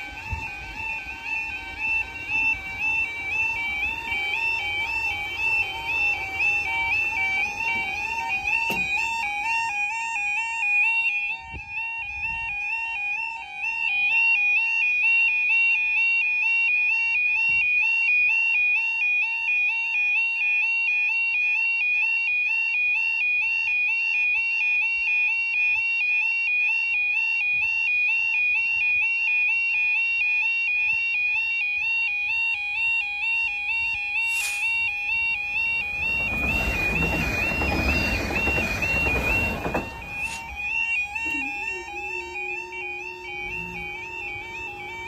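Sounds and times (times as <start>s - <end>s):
level crossing two-tone alarm: 0.0s - 45.0s.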